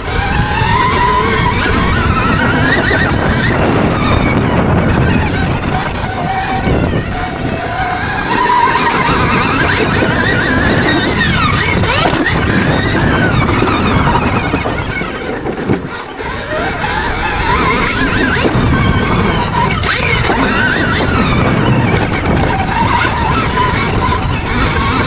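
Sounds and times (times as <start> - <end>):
electric motorbike motor whining: 0.0 - 25.0.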